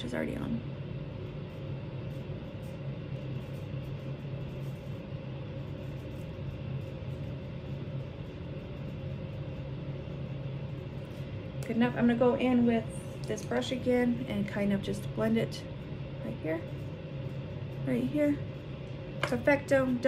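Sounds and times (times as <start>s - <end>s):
low hum with faint hiss: 0.0s - 20.0s.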